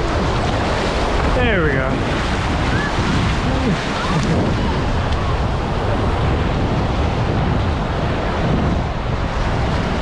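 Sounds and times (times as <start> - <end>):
waves washing: 0.0 - 10.0
wind buffeting microphone: 0.0 - 10.0.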